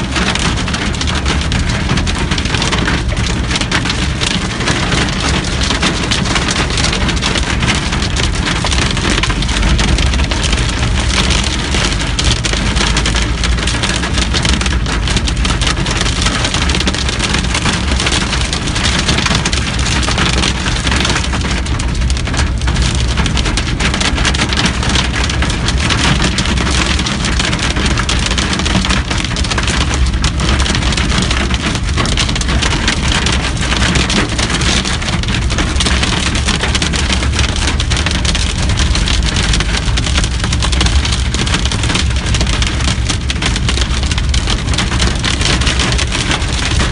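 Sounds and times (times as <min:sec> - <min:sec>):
car rumbling: 0:00.0 - 0:46.9
hail and rain on car roof: 0:00.0 - 0:46.9.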